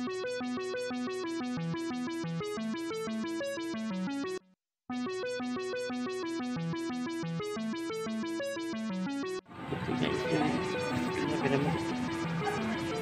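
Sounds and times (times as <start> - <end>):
synthesizer melody: 0.0 - 13.0.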